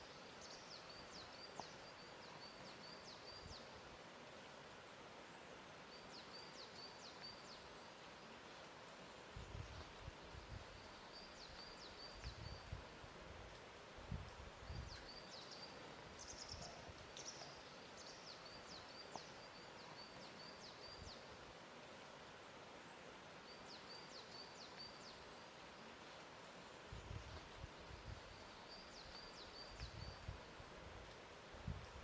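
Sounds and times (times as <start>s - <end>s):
soft steady hiss: 0.0s - 32.0s.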